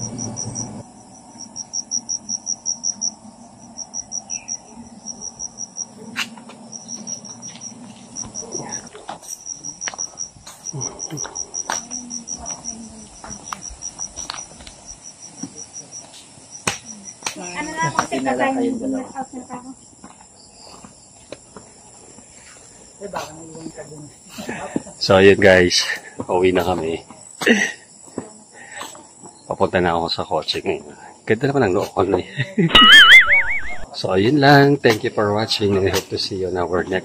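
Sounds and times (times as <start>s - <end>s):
insect chirping trill: 0.0s - 37.0s.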